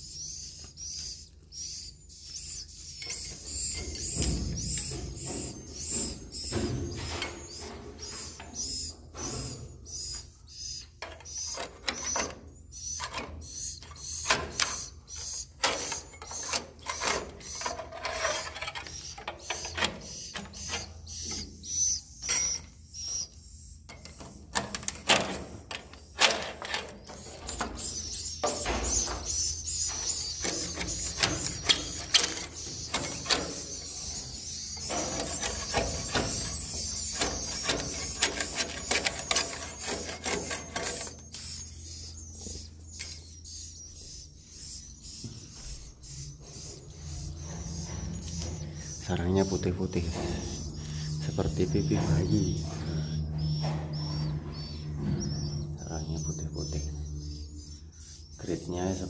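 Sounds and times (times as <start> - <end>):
high bird twittering: 0.0 - 59.0.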